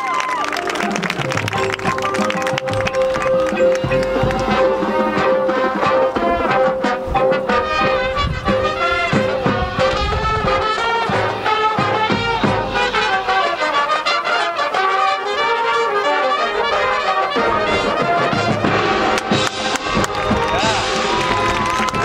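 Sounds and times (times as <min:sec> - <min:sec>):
brass melody: 0:00.0 - 0:22.0.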